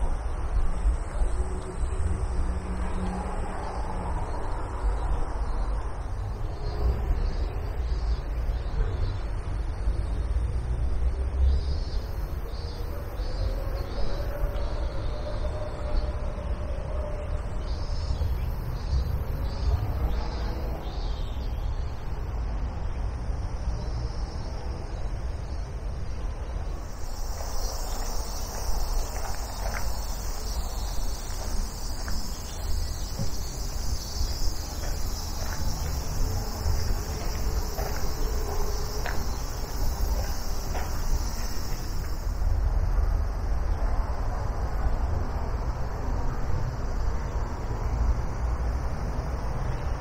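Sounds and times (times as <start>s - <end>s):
insects calling: 0.0s - 50.0s.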